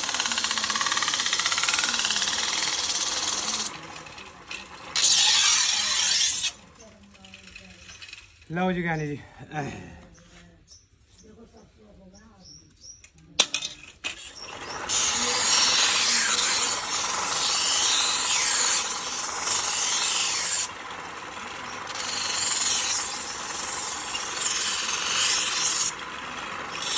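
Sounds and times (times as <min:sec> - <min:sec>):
knife blade on grinding wheel: 0:00.0 - 0:09.0, 0:13.4 - 0:26.9.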